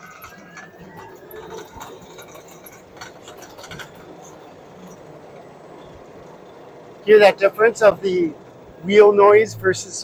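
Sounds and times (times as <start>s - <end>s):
tyres rolling on pavement: 0.0s - 10.0s.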